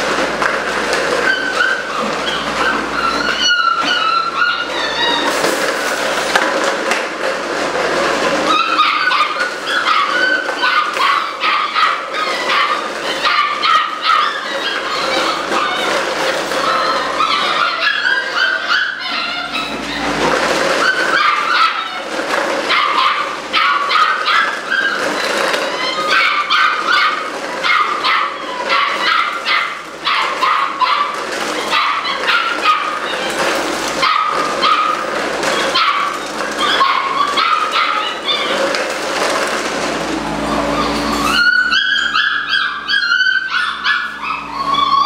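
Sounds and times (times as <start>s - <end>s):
puppies yipping and barking: 0.0s - 45.0s.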